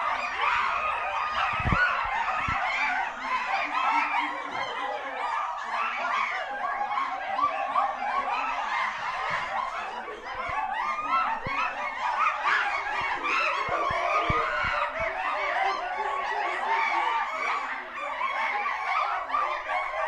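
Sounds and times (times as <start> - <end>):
chimpanzees calling: 0.0 - 20.0.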